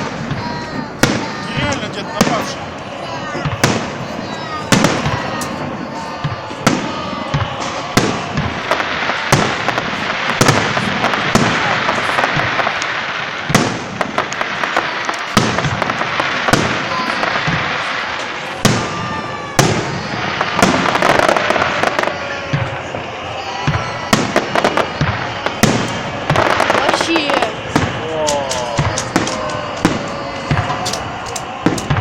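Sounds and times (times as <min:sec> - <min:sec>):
dense firework crackling: 0:00.0 - 0:32.0
firework shells bursting: 0:00.0 - 0:32.0.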